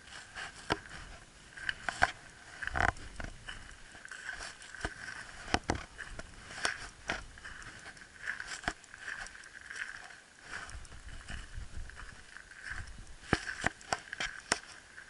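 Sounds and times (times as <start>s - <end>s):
footsteps crunching on gravel: 0.0s - 15.0s
sharp clicks and scrapes: 0.4s - 15.0s.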